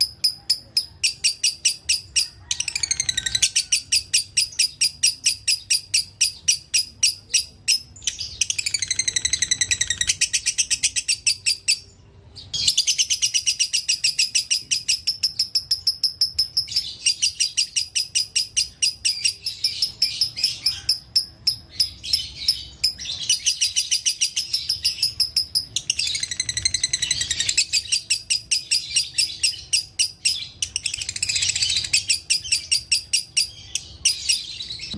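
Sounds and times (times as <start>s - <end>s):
lovebird chattering trill: 0.0s - 11.9s, 12.6s - 34.9s.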